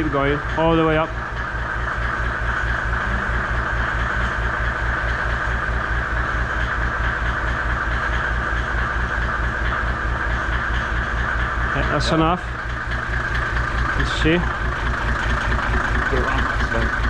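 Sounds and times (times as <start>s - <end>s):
engine throbbing: 0.0s - 17.0s.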